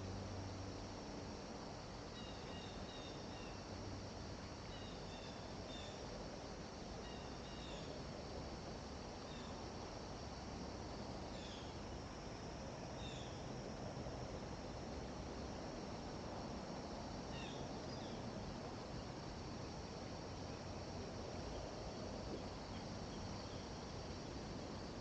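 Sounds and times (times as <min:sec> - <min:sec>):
faint insect trill: 0:00.0 - 0:25.0
steady outdoor hiss: 0:00.0 - 0:25.0.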